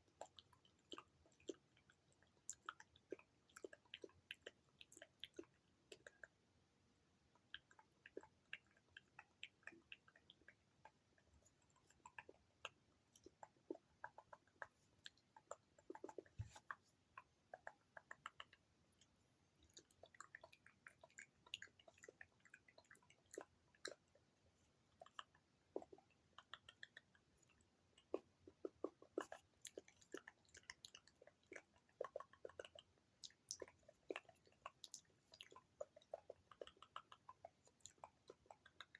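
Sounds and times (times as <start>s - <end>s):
wet lip and tongue clicks: 0.0s - 6.5s, 7.2s - 38.9s.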